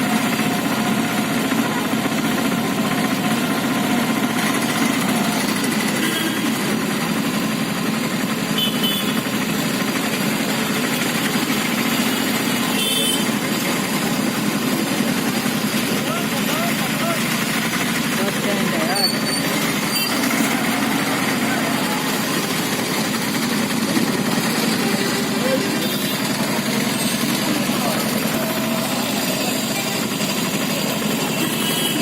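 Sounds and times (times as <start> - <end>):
small engine running: 0.0 - 32.0.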